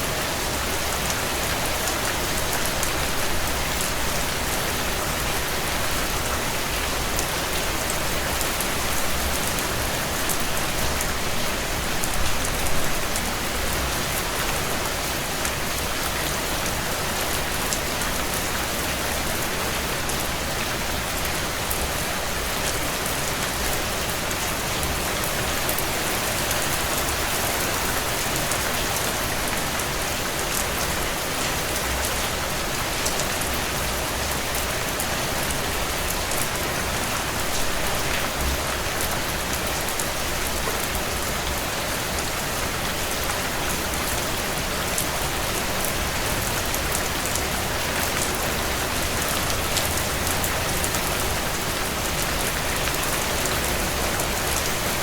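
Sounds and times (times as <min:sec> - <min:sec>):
heavy rain on a window: 0:00.0 - 0:55.0.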